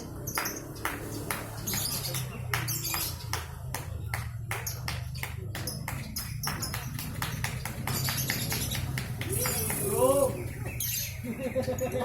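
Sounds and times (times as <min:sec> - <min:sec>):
caged songbirds singing: 0:00.0 - 0:12.0.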